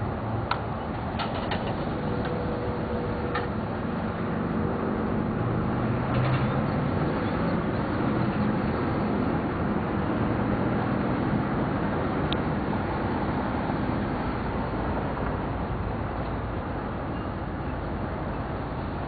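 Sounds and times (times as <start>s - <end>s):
road traffic noise: 0.0s - 19.0s
vehicle engine hum: 0.0s - 19.0s.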